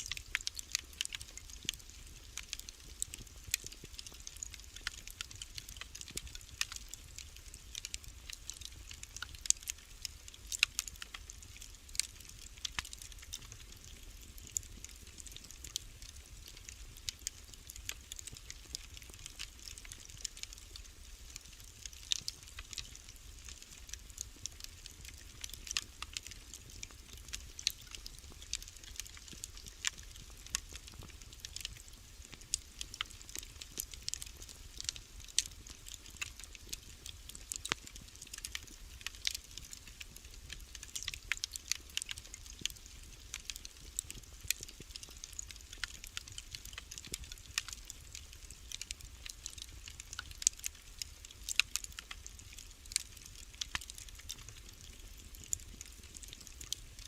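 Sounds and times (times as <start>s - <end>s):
faint steady hiss: 0.0s - 57.0s
wood fire crackling and popping: 0.0s - 57.0s.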